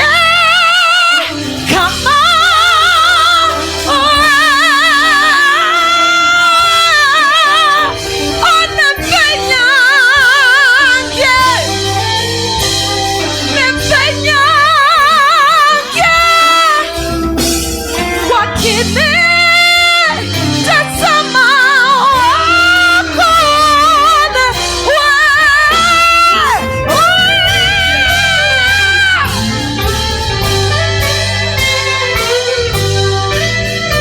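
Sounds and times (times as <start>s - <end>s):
high voice singing: 0.0s - 31.7s
instrumental backing: 0.0s - 34.0s.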